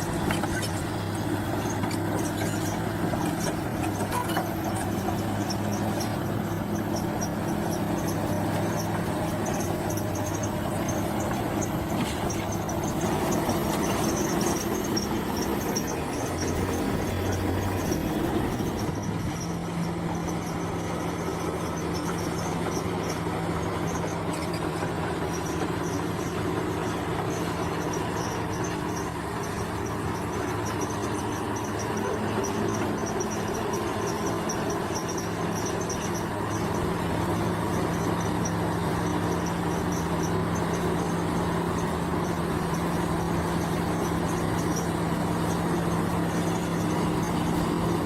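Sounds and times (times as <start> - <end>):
bulldozer diesel engine running: 0.0 - 48.0
high squeaking pulse: 0.0 - 48.0.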